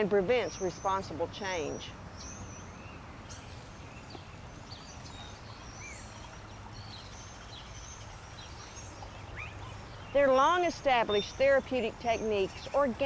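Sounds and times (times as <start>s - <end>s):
birds chirping and whistling: 0.4s - 13.0s.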